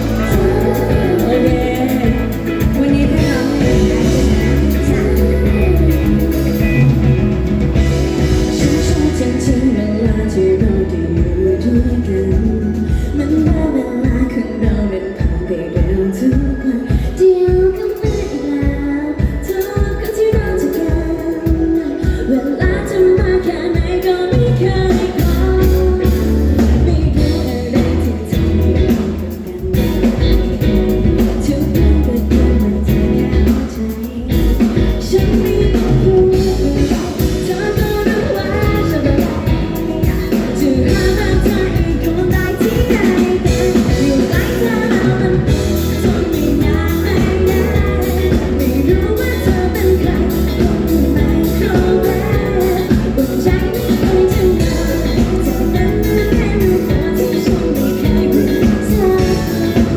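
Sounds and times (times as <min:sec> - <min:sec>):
heavy bass: 0:00.0 - 0:14.3, 0:24.3 - 0:59.9
guitar: 0:00.0 - 0:59.9
woman singing pop-rock live: 0:00.0 - 0:59.9.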